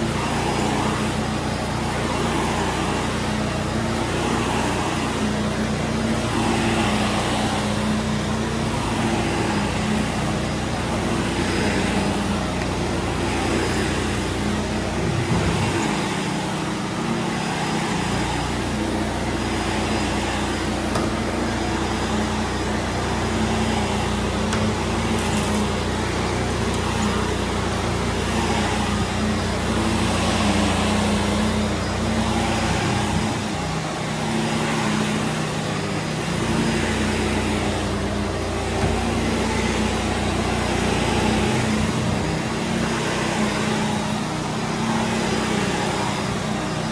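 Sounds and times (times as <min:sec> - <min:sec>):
pressure washer humming: 0:00.0 - 0:46.9
vacuum cleaner on carpet: 0:00.0 - 0:46.9.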